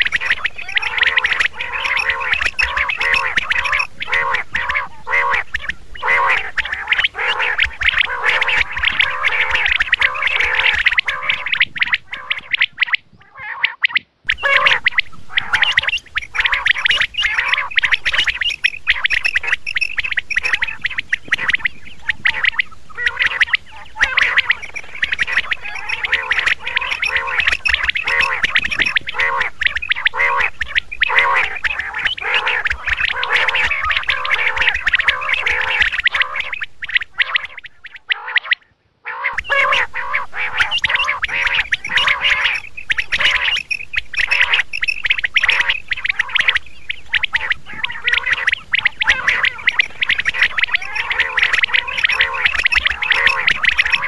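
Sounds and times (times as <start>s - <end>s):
quail calling: 0.0s - 54.0s.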